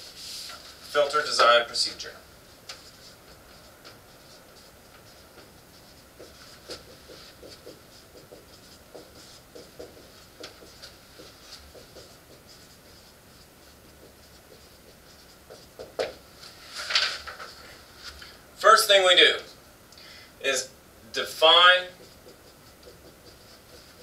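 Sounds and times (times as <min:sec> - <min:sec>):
marker writing on whiteboard: 0:00.0 - 0:16.5, 0:21.1 - 0:24.0.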